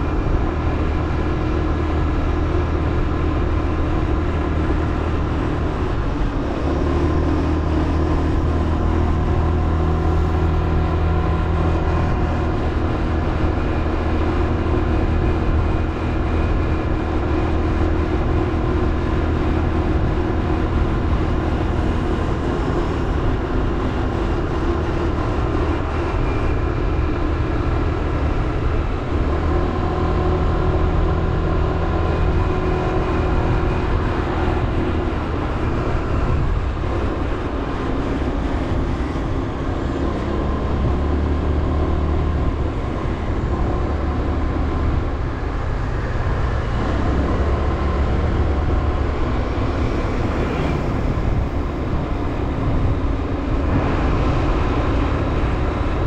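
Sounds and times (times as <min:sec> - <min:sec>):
road noise: 0:00.0 - 0:56.0
wind noise: 0:00.0 - 0:56.0.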